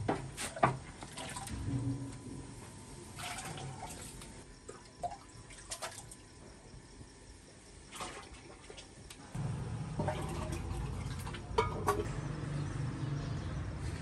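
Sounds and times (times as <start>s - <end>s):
steady low hum: 1.4s - 14.0s.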